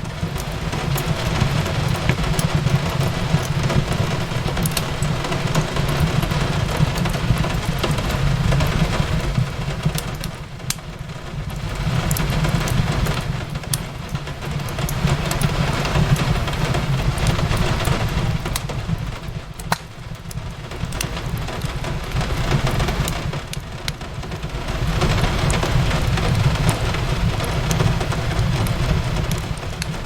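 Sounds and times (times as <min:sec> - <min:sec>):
rain hiss: 0:00.0 - 0:30.0
wood fire crackling and popping: 0:00.0 - 0:30.0.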